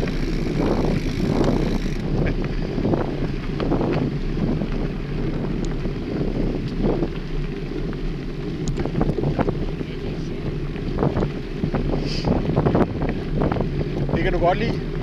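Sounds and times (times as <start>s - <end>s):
bicycle tyres rolling on gravel: 0.0s - 15.0s
bike clicks and rattles: 0.0s - 15.0s
wind buffeting microphone: 0.0s - 15.0s.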